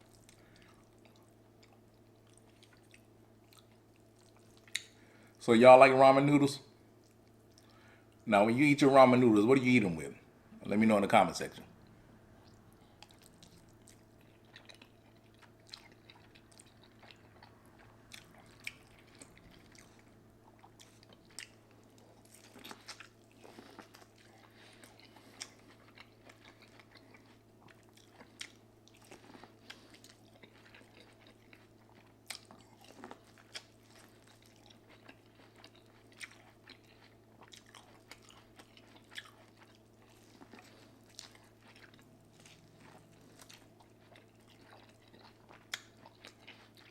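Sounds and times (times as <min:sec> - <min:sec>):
person chewing: 0:00.0 - 0:05.0, 0:07.0 - 0:08.2, 0:11.8 - 0:46.9
faint steady hum: 0:00.0 - 0:46.9.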